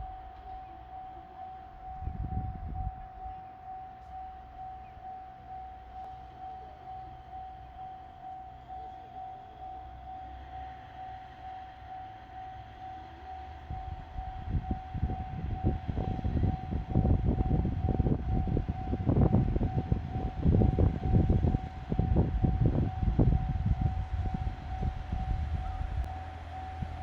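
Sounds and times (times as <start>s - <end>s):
diesel train passing: 0.0s - 27.0s.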